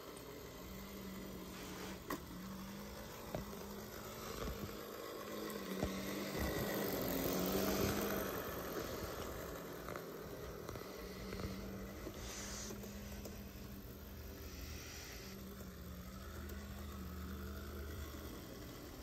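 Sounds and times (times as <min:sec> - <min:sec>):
model train motor hum: 0:00.0 - 0:19.0
model train wheels rumbling: 0:00.0 - 0:19.0.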